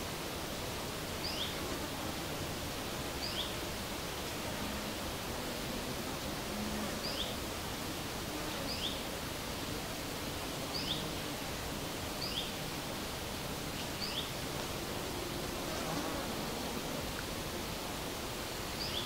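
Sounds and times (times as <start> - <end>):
wind rustling leaves: 0.0 - 19.0.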